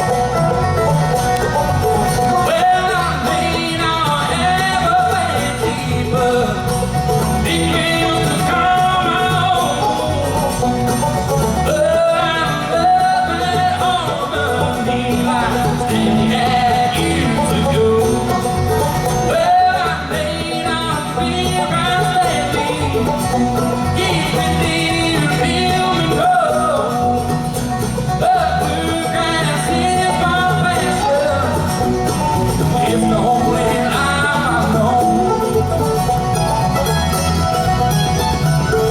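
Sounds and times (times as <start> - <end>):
banjo: 0.0 - 38.9
guitar: 0.0 - 38.9
person singing: 2.2 - 36.2.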